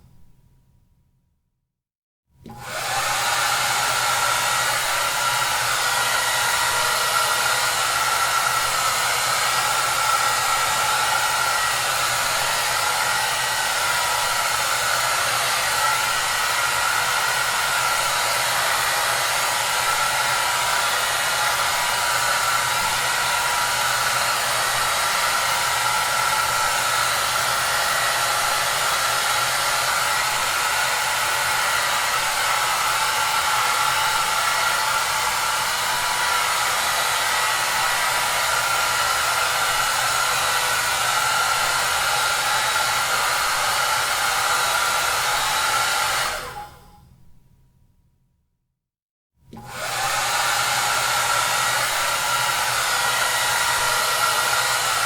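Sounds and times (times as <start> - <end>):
hair dryer running: 2.4 - 47.0, 49.5 - 55.0.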